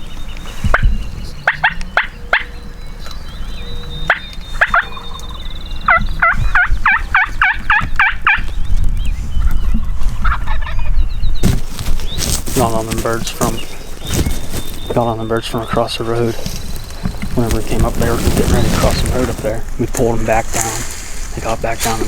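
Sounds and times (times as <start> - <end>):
wild turkey calling: 0.0 - 8.6, 9.4 - 11.2, 12.1 - 22.0
wind rumble on microphone: 0.0 - 22.0.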